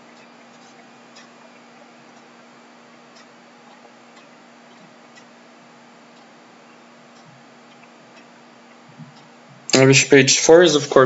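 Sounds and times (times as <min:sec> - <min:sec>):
faint regular ticking: 0:00.0 - 0:11.0
low hum and hiss: 0:00.0 - 0:11.0.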